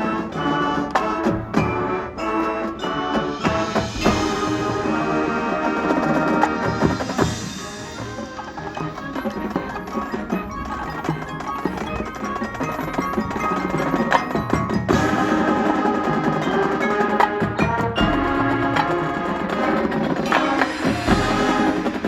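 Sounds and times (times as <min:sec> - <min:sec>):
chimes: 0:00.0 - 0:22.0
mallet percussion: 0:00.0 - 0:22.0
marching band playing: 0:00.0 - 0:22.0
wood block: 0:00.0 - 0:22.0.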